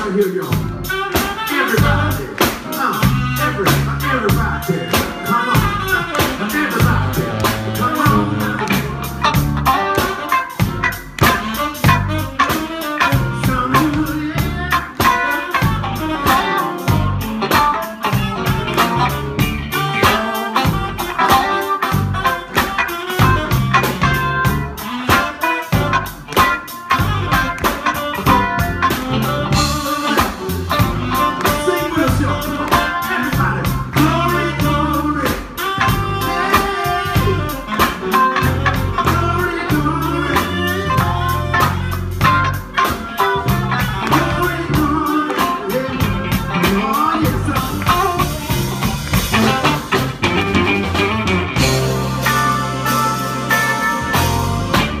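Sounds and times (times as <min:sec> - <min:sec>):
bass guitar: 0:00.0 - 0:55.0
drum kit: 0:00.0 - 0:55.0
electric guitar: 0:00.0 - 0:55.0
saxophone: 0:00.1 - 0:55.0.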